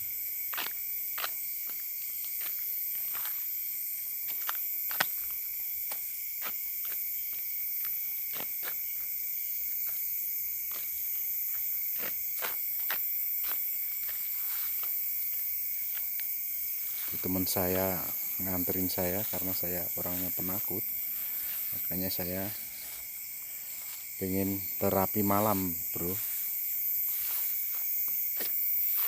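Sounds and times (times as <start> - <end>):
crickets trilling: 0.0 - 29.0.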